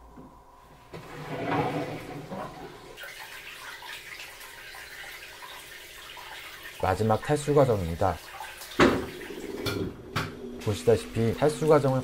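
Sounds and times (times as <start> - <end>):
washing machine water swishing: 0.9 - 12.0.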